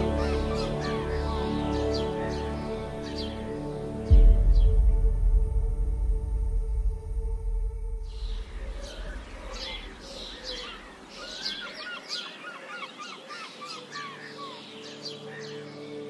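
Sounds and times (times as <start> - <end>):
birds chirping: 0.0 - 5.1, 7.8 - 16.0
low ambient music drone: 0.0 - 10.9, 13.8 - 16.0.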